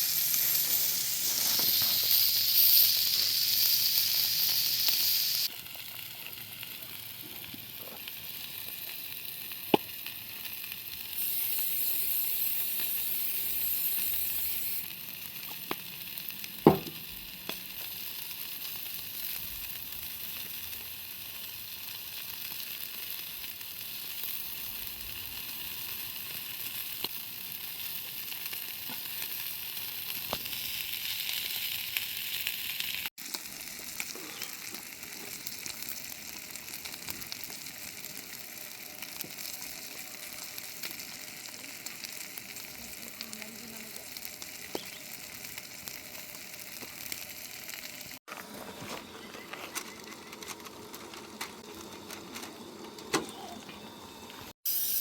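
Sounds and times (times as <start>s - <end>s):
sharp pops of frying: 0.0s - 48.2s
food sizzling in a pan: 0.0s - 50.9s, 53.3s - 55.0s.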